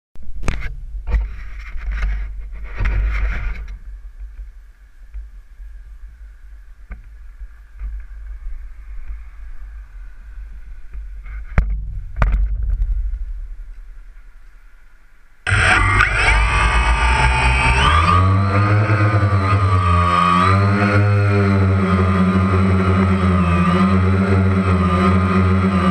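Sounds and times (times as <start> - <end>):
steady low rumble: 0.2 - 25.9.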